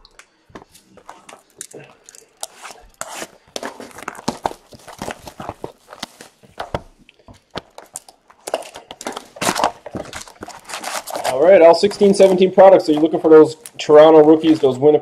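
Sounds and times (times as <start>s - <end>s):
plastic wrapping crinkling and tearing: 0.1s - 14.8s.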